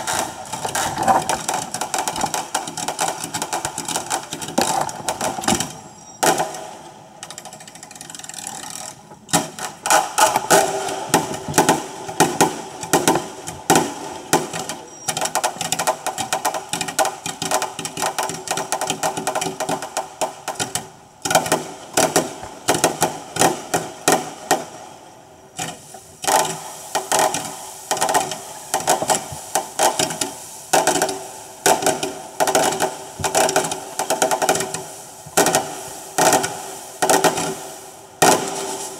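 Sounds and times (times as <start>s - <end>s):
fireworks bangs and crackles: 0.0s - 7.7s, 9.3s - 38.9s.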